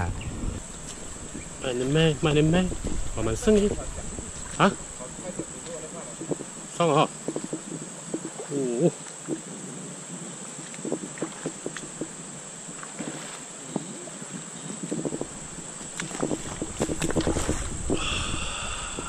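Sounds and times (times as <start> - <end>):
high-pitched insect drone: 0.1 - 19.0
water sloshing in a rocky stream: 0.8 - 18.3.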